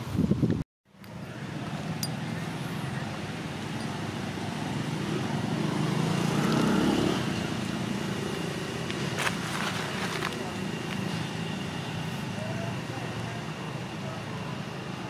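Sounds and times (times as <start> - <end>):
vehicle engine passing: 1.1 - 14.5.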